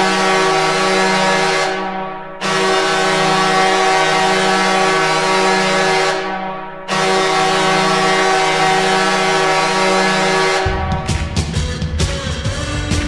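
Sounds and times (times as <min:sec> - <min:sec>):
goal horn blasts: 0:00.0 - 0:13.0.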